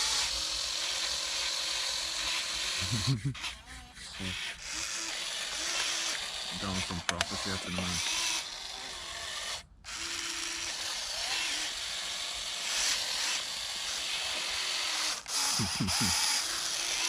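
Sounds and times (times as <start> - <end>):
electric motors whirring: 0.0 - 17.0.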